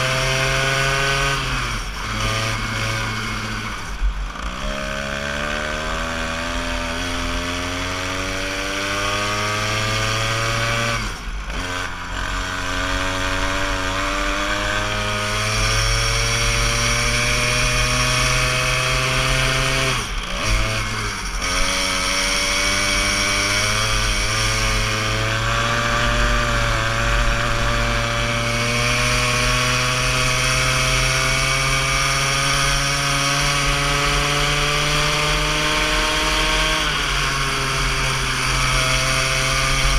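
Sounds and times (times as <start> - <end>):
go-kart engine buzzing: 0.0 - 39.9.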